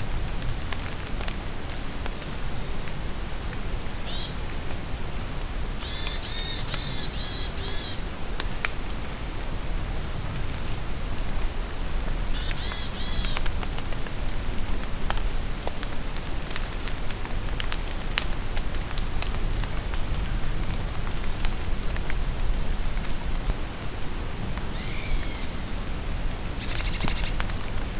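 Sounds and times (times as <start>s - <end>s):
rain falling in forest: 0.0s - 27.9s.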